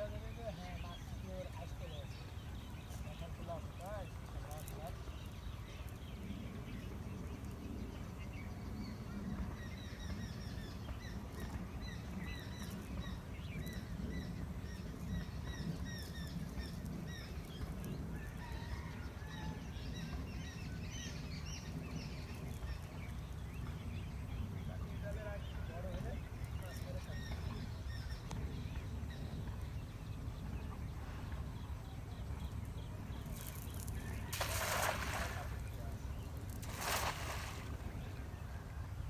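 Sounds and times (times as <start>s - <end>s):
birds chirping: 0.0s - 17.8s, 20.0s - 39.0s.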